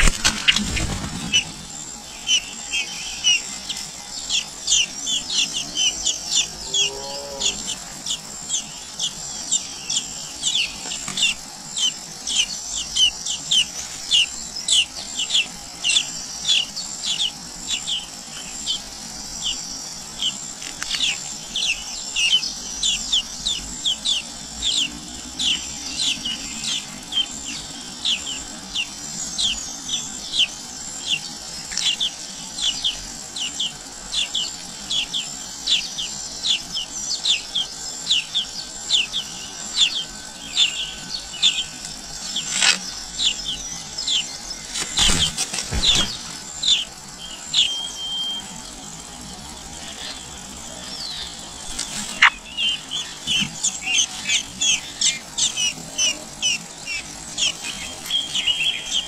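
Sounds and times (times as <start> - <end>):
nestlings chirping: 0.0 - 59.0
steady high hiss: 0.0 - 59.0.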